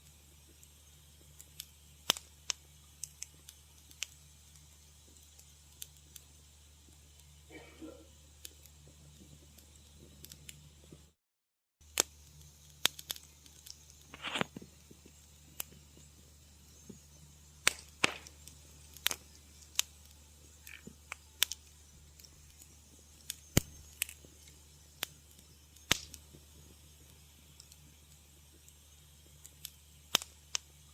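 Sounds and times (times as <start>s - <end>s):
wood fire crackling and popping: 0.0s - 11.2s, 11.8s - 30.9s.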